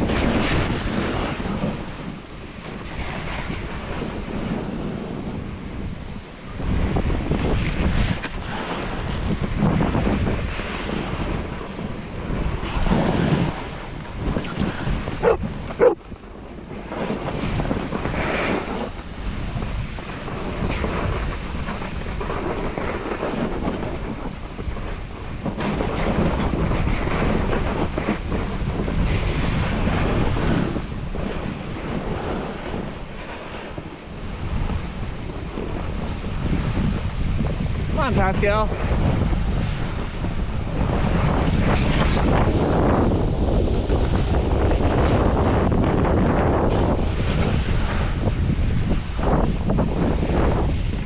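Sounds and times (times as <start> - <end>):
snowboard carving over snow: 0.0 - 51.0
wind on microphone: 0.0 - 51.0.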